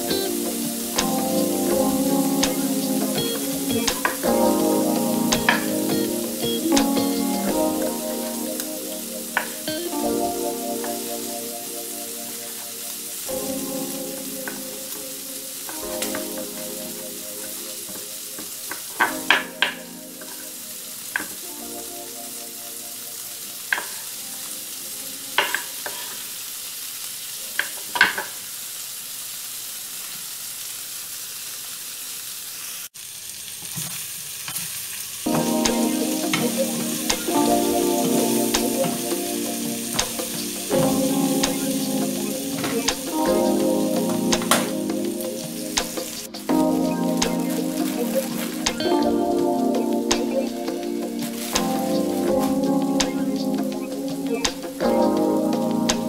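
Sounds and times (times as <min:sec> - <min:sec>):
food sizzling in a frying pan: 0:00.0 - 0:56.0.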